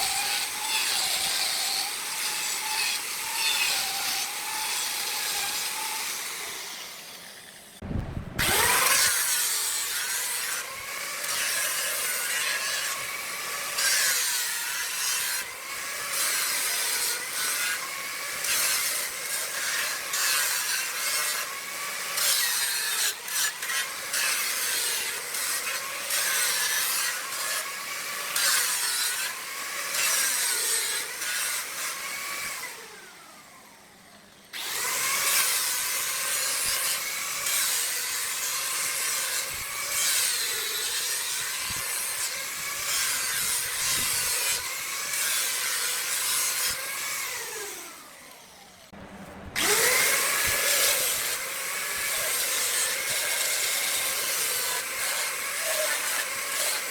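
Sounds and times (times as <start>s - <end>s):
woodturning tool cutting wood on lathe: 0.0s - 56.9s.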